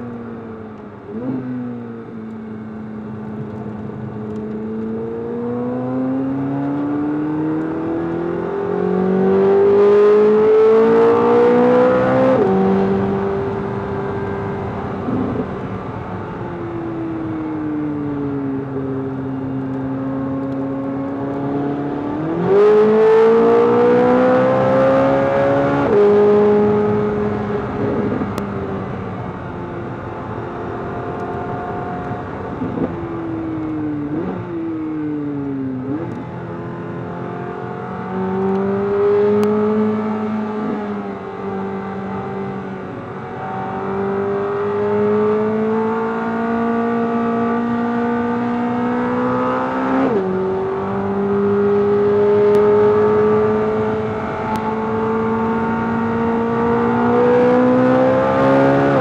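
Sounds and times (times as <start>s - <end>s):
sports car engine revving: 3.0s - 16.4s, 17.3s - 29.0s, 29.8s - 59.0s.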